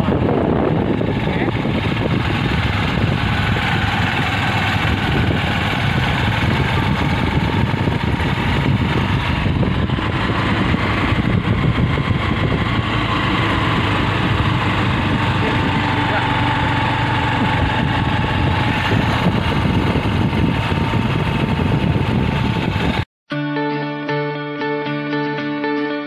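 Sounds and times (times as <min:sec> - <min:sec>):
small engine running: 0:00.0 - 0:23.0
wind and road noise: 0:00.0 - 0:23.1.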